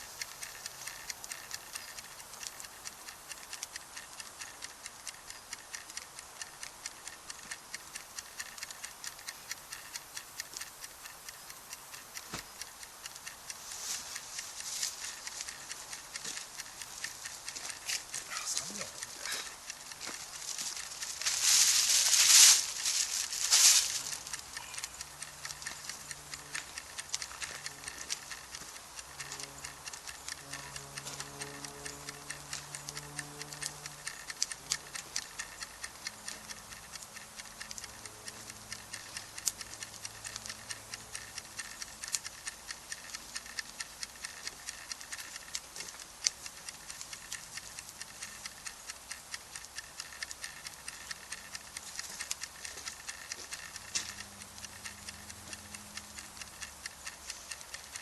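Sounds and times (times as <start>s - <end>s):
wood campfire crackling: 0.0s - 56.9s.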